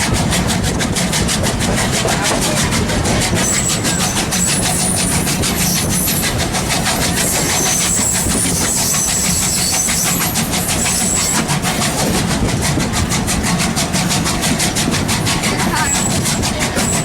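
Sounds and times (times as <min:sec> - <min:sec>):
train rumble and rapid clatter: 0:00.0 - 0:17.0.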